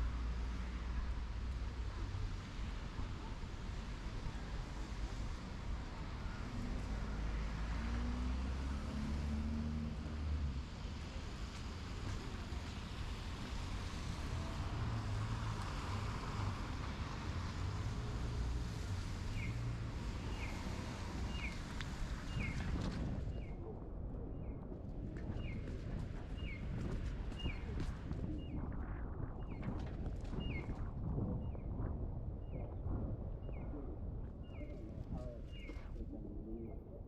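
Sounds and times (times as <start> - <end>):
traffic: 0.0 - 37.0
wind: 0.0 - 37.0.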